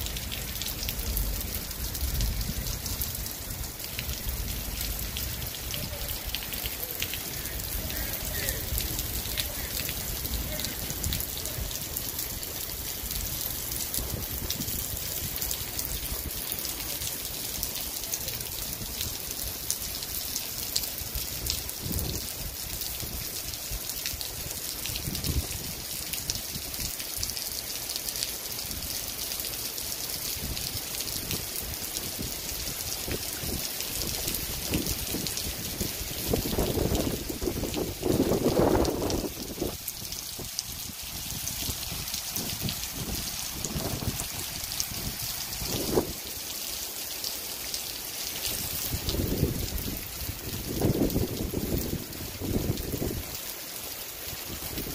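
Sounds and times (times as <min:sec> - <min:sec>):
rain on wet pavement: 0:00.0 - 0:54.9.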